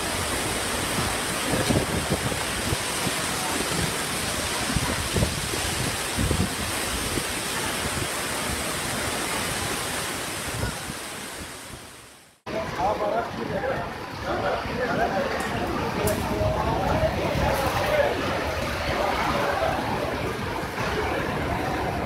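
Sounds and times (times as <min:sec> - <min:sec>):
wind buffeting microphone: 0:00.0 - 0:09.6, 0:13.4 - 0:22.0
driving rain: 0:00.0 - 0:22.0
storm wind blowing: 0:00.0 - 0:22.0.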